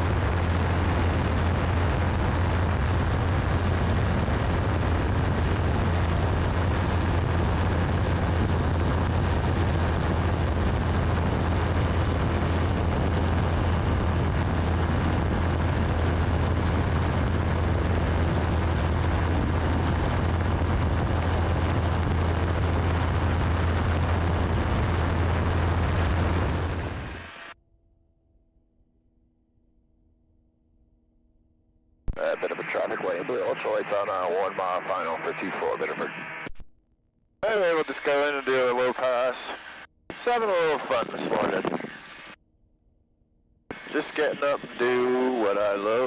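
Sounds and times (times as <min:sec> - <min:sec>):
ultralight engine and propeller drone: 0:00.0 - 0:36.6, 0:37.4 - 0:46.0.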